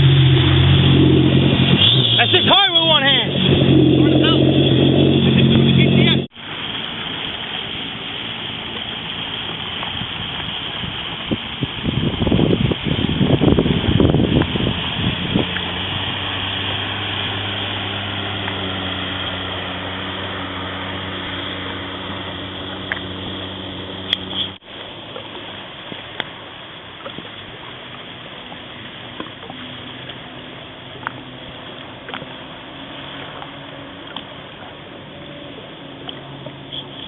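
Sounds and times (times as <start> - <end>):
jet ski engine running: 0.0 - 37.0
water noise: 0.0 - 37.0.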